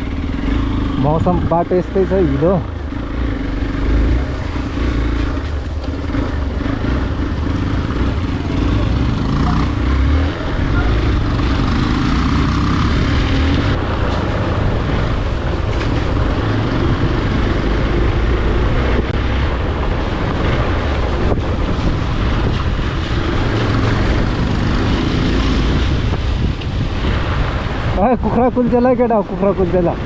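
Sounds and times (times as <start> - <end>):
motorcycle engine running: 0.0 - 27.2
wind rumble on microphone: 0.0 - 30.0.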